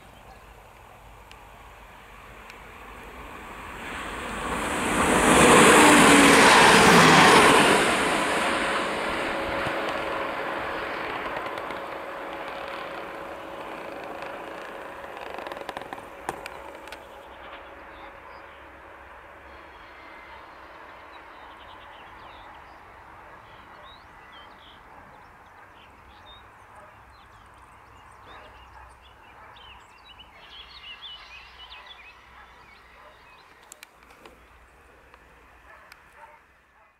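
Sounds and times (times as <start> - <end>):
railcar passing: 0.0 - 28.5, 29.8 - 36.8.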